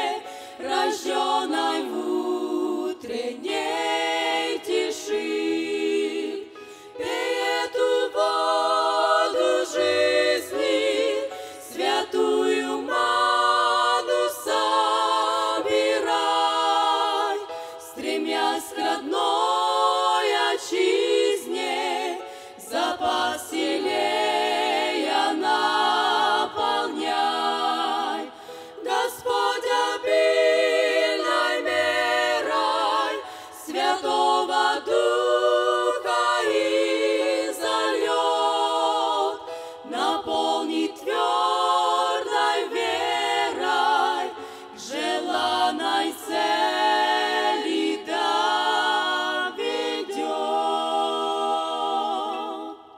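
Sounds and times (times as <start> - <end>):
women's choir singing a hymn: 0.0 - 52.9.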